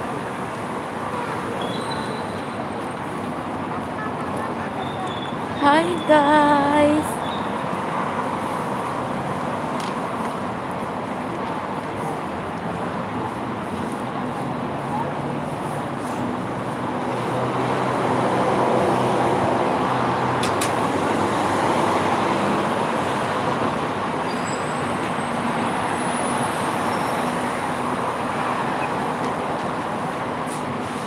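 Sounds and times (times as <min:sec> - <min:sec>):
vehicles going by: 0:00.0 - 0:31.0.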